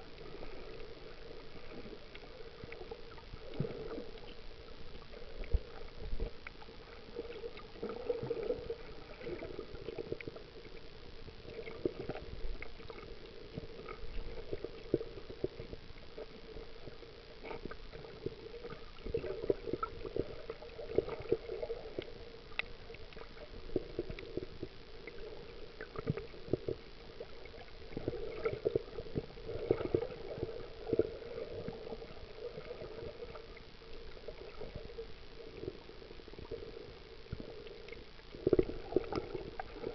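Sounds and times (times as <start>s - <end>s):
small underwater clicks and crackles: 0.0s - 39.9s
underwater gurgling water: 0.0s - 39.9s.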